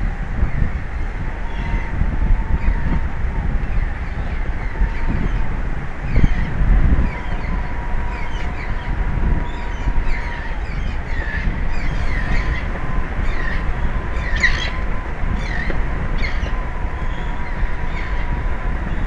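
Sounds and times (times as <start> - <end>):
thin steady whine: 0.0 - 19.0
wind buffeting microphone: 0.0 - 19.0
birds chirping: 3.6 - 19.0.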